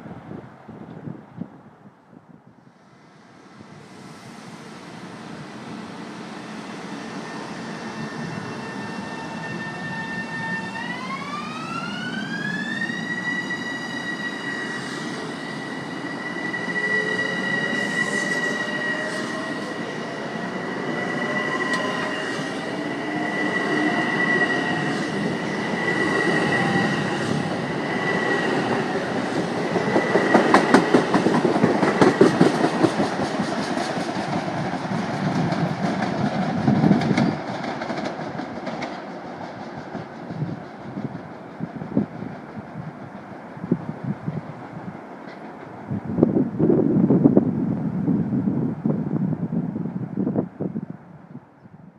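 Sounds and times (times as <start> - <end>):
train rolling rumble: 3.6 - 51.2.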